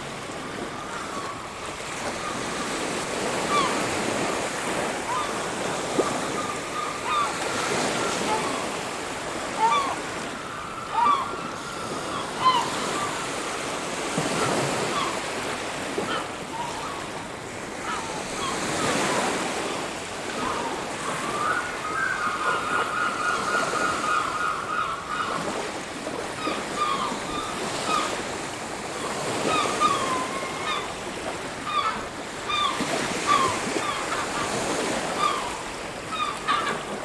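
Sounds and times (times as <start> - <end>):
birds crying: 4.9 - 13.5, 14.3 - 25.7, 26.4 - 28.2, 29.0 - 37.0.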